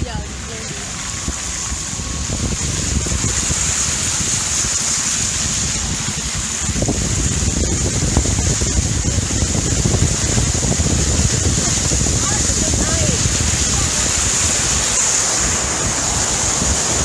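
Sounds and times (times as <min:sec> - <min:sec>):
vehicle splashing through floodwater: 0:00.0 - 0:17.0
wind rumbling on microphone: 0:00.0 - 0:17.0.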